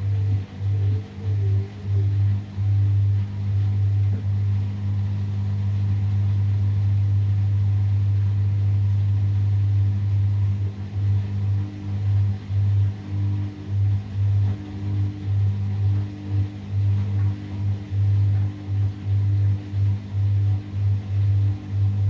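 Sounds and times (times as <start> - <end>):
drain pump humming: 0.0 - 22.0.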